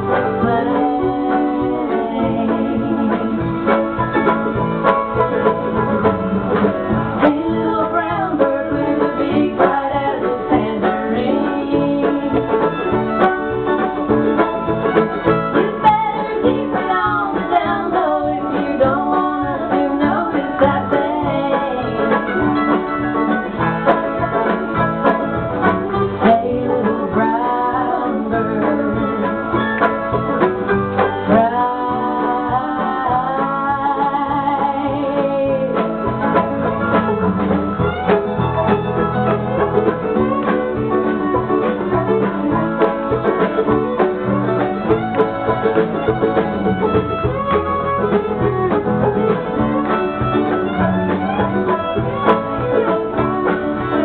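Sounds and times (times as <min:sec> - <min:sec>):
acoustic string band playing: 0:00.0 - 0:54.0
banjo: 0:00.0 - 0:54.0
guitar: 0:00.0 - 0:54.0.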